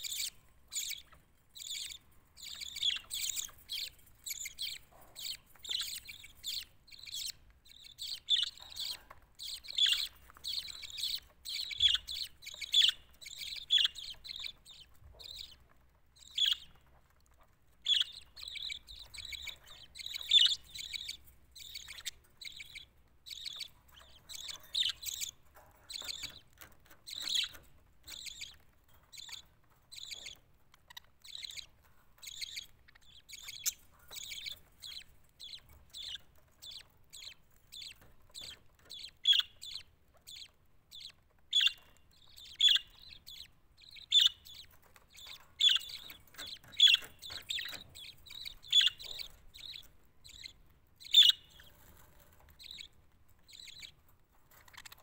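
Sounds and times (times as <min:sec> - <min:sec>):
budgerigars chirping: 0:00.0 - 0:55.0.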